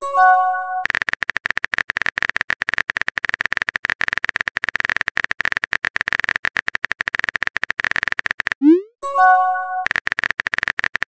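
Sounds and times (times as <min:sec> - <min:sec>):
rapid keyboard tap clicks: 0:00.8 - 0:08.6, 0:09.9 - 0:11.0.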